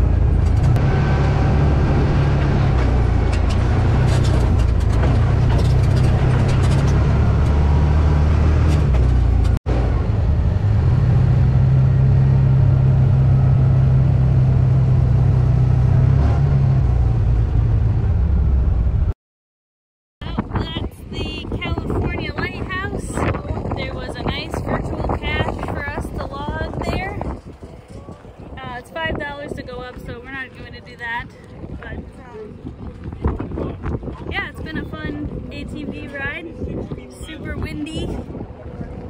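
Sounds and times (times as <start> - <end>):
utility vehicle engine droning: 0.0 - 19.1, 20.2 - 39.0.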